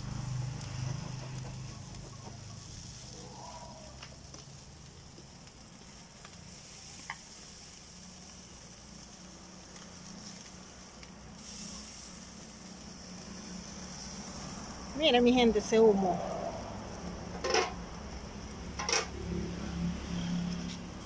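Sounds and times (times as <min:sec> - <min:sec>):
meat sizzling on grill: 0:00.0 - 0:21.0.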